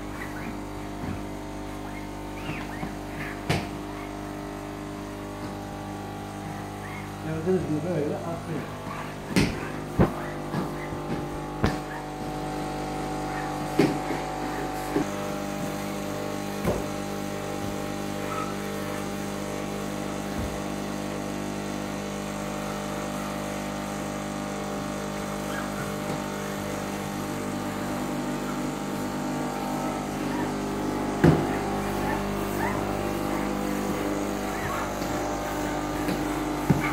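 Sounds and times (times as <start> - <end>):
cleaning machine motor drone: 0.0 - 36.9.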